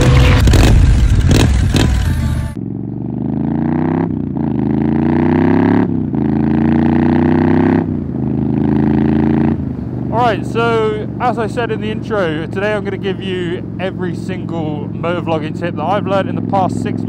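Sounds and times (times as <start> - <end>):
motorcycle engine revving and accelerating: 0.0 - 17.0.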